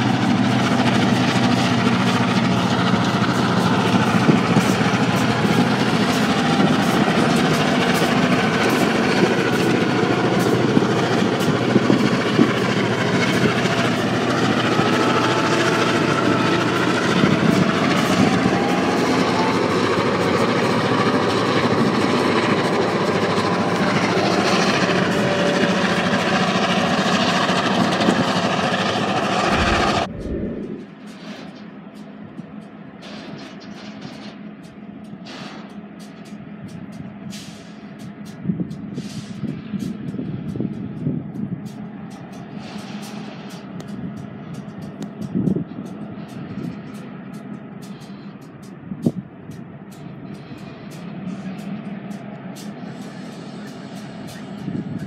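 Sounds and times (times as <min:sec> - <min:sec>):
sharp clicks from rolling train: 0:00.0 - 0:30.1, 0:30.7 - 0:55.0
diesel locomotive engine drone: 0:00.0 - 0:55.0
freight cars rolling by: 0:00.0 - 0:55.0.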